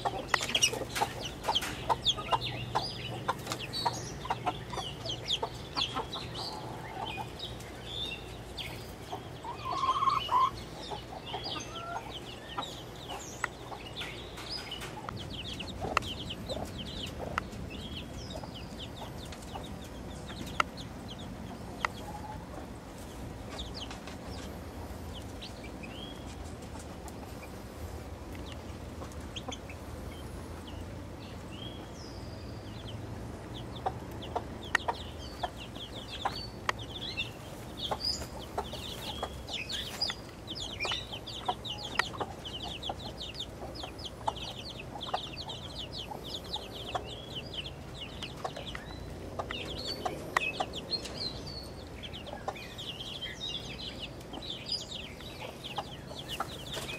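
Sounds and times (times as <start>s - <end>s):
hen clucking: 0.0s - 32.0s, 32.7s - 56.9s
chicks peeping: 0.0s - 56.9s.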